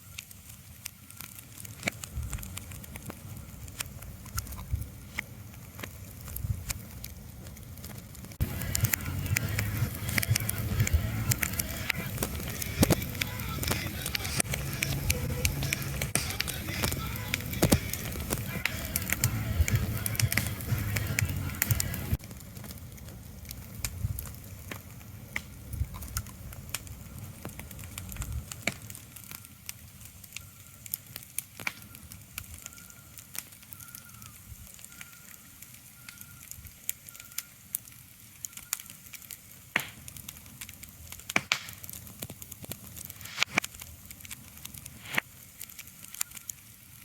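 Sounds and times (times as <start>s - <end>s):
crackling and popping clicks: 0.0s - 47.0s.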